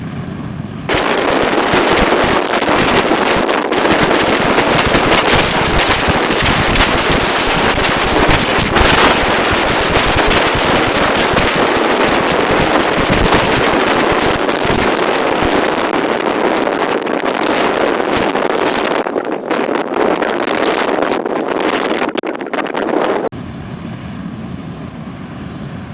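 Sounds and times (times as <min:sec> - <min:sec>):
jet blast buffeting microphone: 0:00.0 - 0:25.9
jet engines at takeoff thrust: 0:00.0 - 0:25.9.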